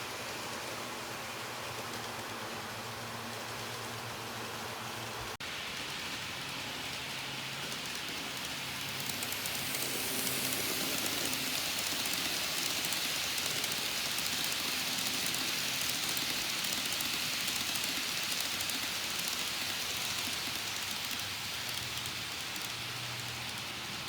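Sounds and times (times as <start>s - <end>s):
model train running on track: 0.0s - 24.0s.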